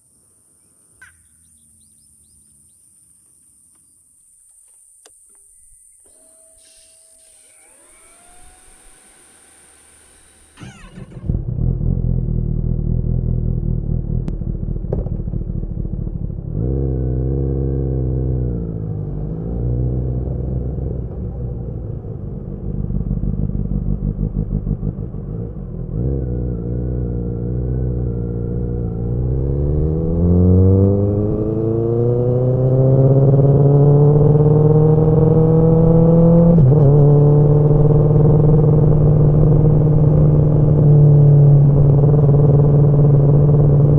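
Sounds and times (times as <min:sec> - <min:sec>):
motorcycle engine accelerating: 0:05.0 - 0:43.9.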